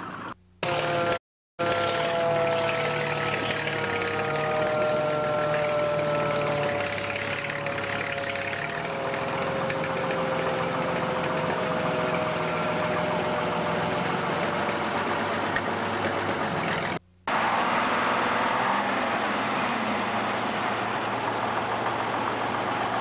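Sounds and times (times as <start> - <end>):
heavy truck engine running: 0.0 - 23.0.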